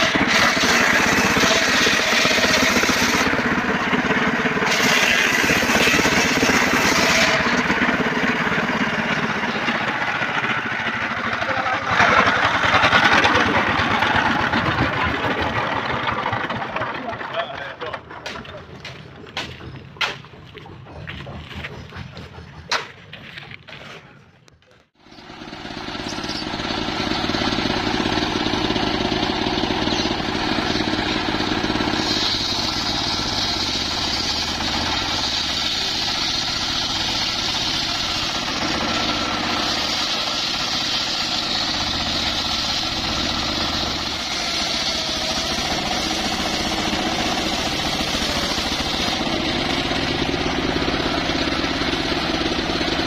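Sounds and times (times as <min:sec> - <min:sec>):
circular sawmill cutting log: 0:00.0 - 0:24.0, 0:25.0 - 0:53.0.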